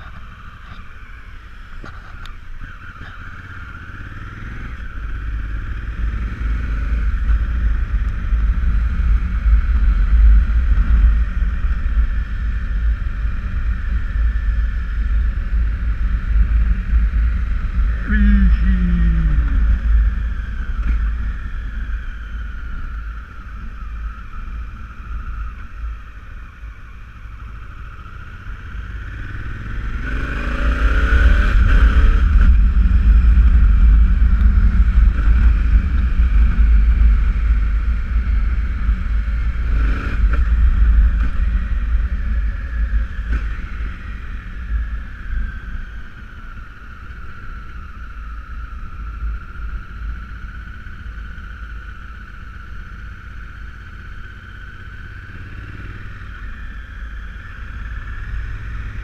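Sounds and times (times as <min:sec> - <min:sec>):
low rush of wind: 0:00.0 - 0:59.0
motorcycle engine accelerating: 0:00.0 - 0:59.0.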